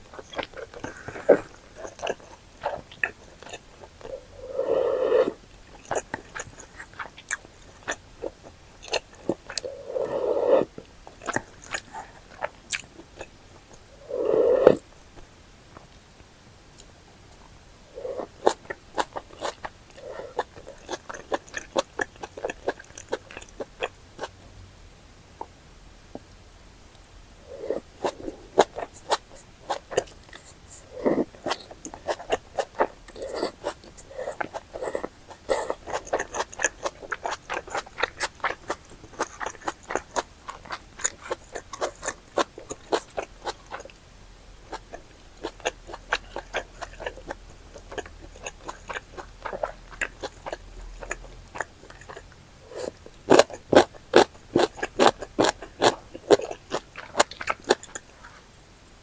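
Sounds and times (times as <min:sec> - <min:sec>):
chewing mouth sounds: 0:00.0 - 0:14.8, 0:18.0 - 0:24.3, 0:27.5 - 0:44.0, 0:44.6 - 0:58.4.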